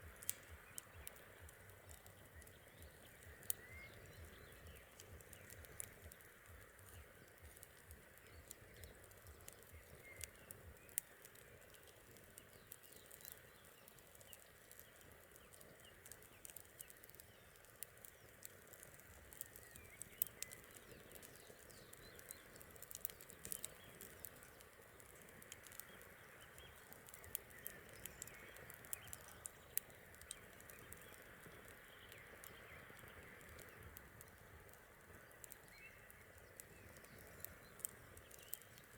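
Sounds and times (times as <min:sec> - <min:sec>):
campfire crackling: 0:00.0 - 0:38.9
low steady hiss: 0:00.0 - 0:38.9.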